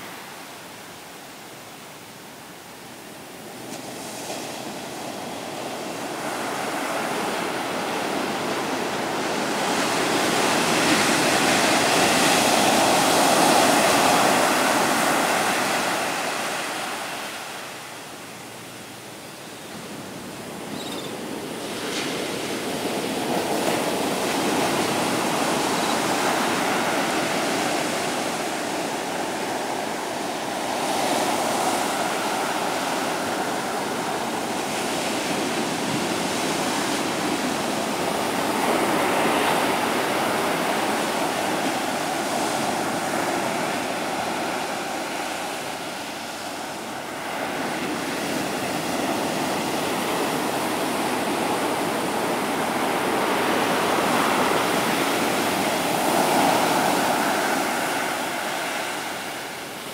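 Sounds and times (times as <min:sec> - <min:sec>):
surf breaking on beach: 0:03.6 - 0:17.7, 0:21.3 - 0:59.9.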